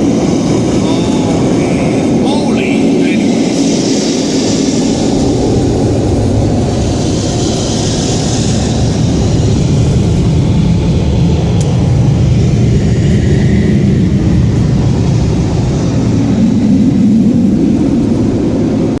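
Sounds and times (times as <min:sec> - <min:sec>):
car wash machinery rumbling: 0:00.0 - 0:19.0.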